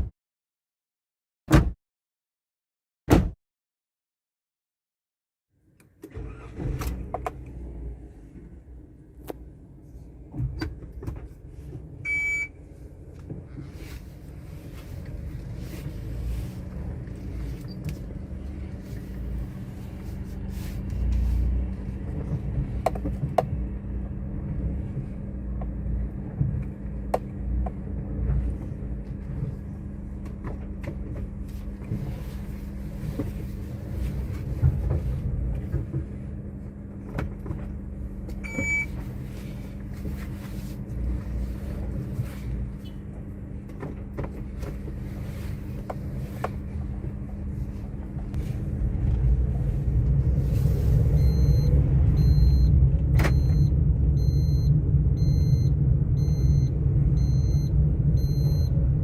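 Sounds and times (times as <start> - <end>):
car cabin rumble and hum: 1.5 - 1.8, 3.1 - 3.4, 5.5 - 59.0.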